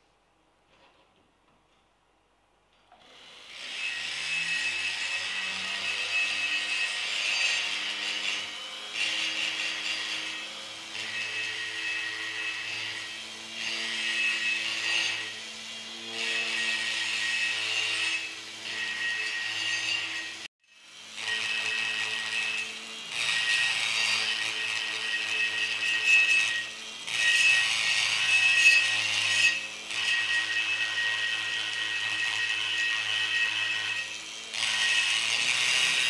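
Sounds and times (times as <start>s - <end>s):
die grinder grinding metal: 3.0s - 36.0s.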